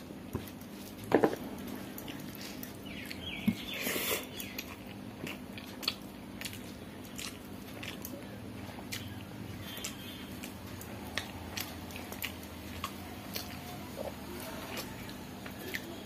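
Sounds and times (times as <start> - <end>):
low steady hum: 0.0 - 16.0
chewing with wet mouth clicks: 1.6 - 3.7, 4.3 - 16.0.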